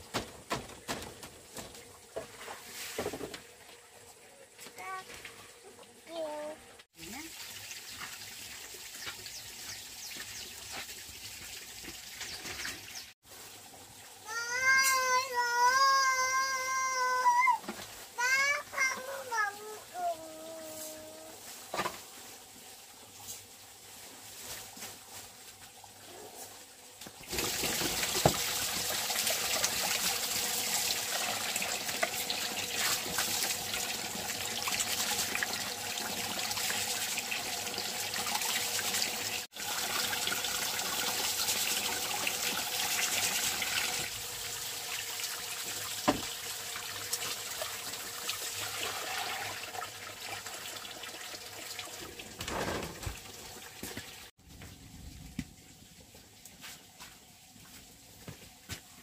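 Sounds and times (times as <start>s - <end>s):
water running and splashing: 6.9s - 54.4s.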